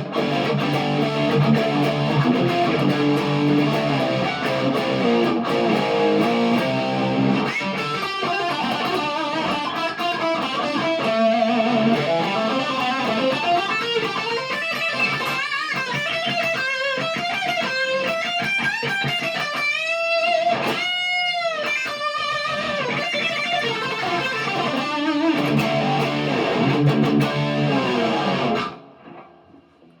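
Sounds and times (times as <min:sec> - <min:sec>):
electric guitar playing: 0:00.0 - 0:30.0.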